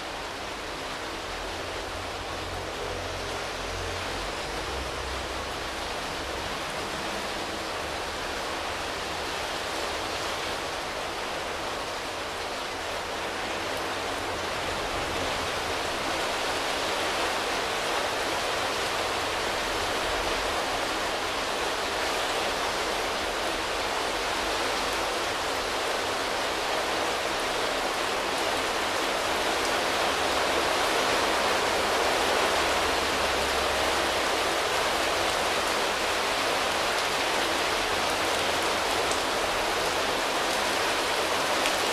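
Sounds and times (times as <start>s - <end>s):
rain on leaves: 0.0s - 41.9s.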